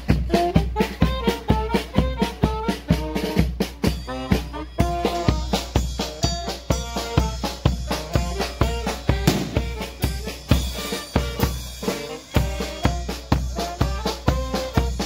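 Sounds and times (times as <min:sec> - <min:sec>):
bass drum beat: 0:00.0 - 0:15.0
marching brass band playing: 0:00.0 - 0:15.0
snare drum and cymbals: 0:00.0 - 0:15.0.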